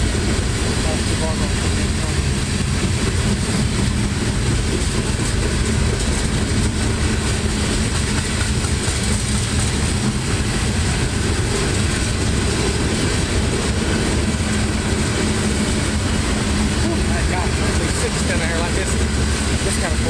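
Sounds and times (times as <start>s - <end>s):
freight train rolling past: 0.0s - 20.0s
steel wheels on rails: 0.0s - 20.0s.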